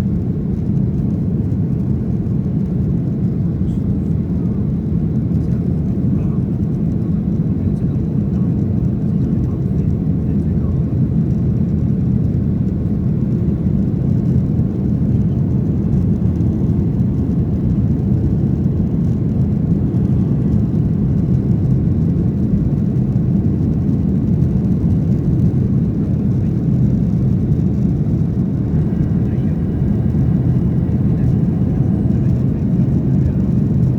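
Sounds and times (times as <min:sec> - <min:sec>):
jet engine cabin rumble: 0:00.0 - 0:33.9.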